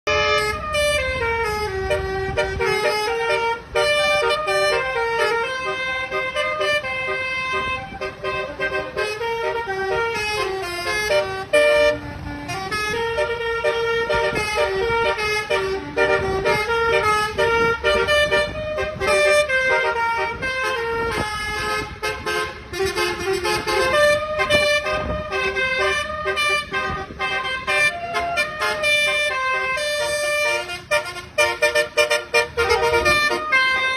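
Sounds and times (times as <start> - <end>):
musical air horn melody: 0.0 - 33.9.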